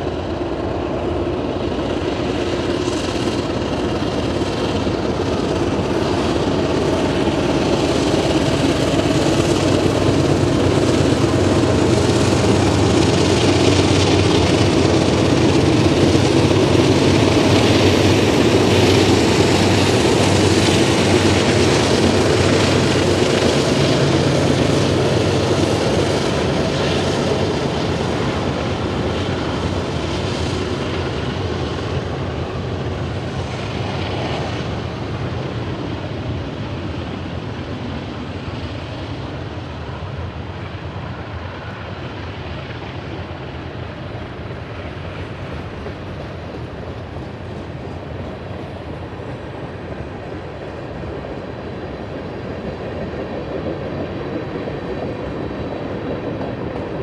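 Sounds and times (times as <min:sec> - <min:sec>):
diesel locomotive engine drone: 0:00.0 - 0:57.0
wheels rumbling on rail: 0:00.0 - 0:57.0.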